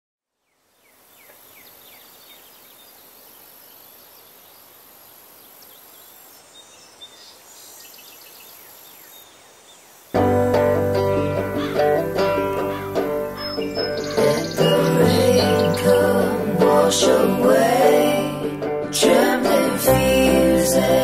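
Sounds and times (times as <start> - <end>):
birds chirping: 0.4 - 17.3.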